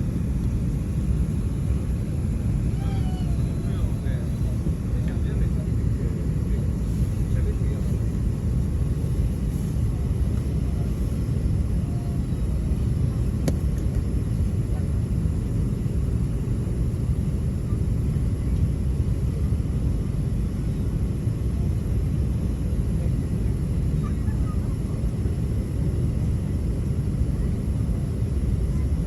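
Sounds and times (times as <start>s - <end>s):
low rumble in aircraft cabin: 0.0s - 29.0s.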